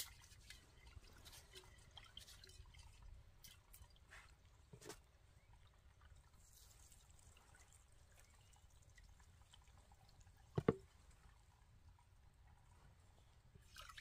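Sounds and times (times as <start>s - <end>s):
faint dripping water: 0.0s - 14.0s.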